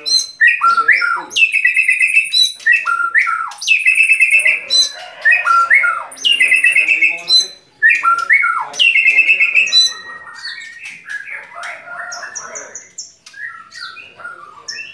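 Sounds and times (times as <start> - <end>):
bird singing trilling phrases: 0.0 - 14.9.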